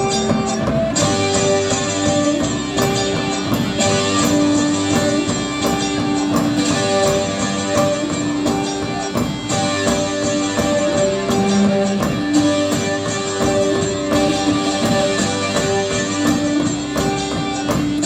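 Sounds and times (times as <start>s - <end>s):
droning guitar notes: 0.0s - 18.0s
percussion beat: 0.0s - 18.0s.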